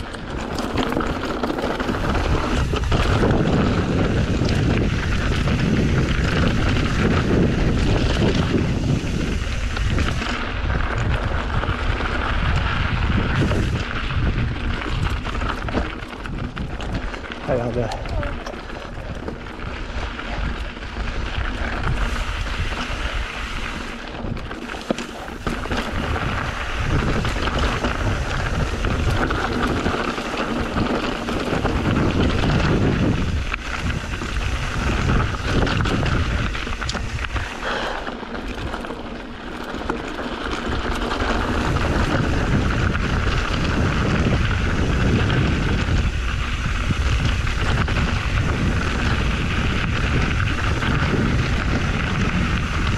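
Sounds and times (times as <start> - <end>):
bike rattling over stones: 0.0 - 52.9
bike tyre rumble: 0.0 - 52.9
wind buffeting microphone: 0.0 - 52.9.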